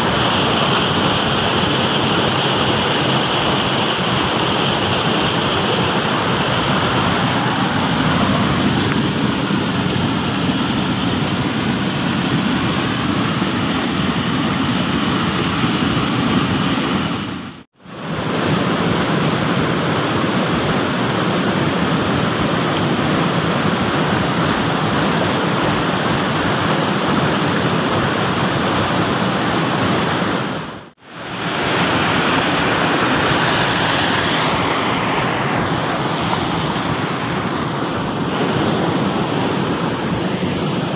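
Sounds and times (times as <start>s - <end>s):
river flowing fast over stones: 0.0s - 40.9s.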